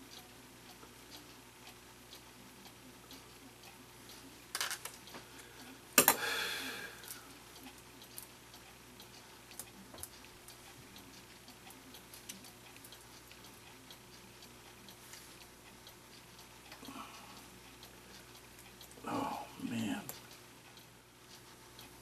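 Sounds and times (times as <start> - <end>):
clock ticking faintly: 0.0 - 6.2, 6.8 - 22.0.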